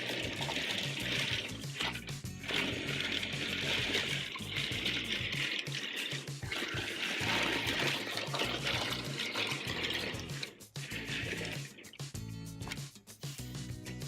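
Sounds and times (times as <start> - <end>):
hissing rustling noise: 0.0 - 13.4
background music with bass line: 0.0 - 14.0.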